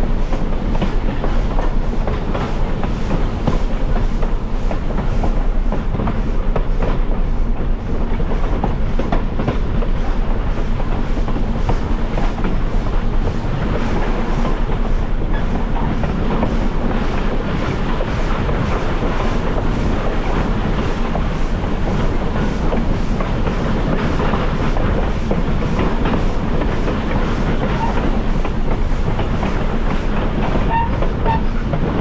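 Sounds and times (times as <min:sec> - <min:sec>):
train rumbling on track: 0:00.0 - 0:32.0
wheels clacking over rail joints: 0:00.0 - 0:32.0.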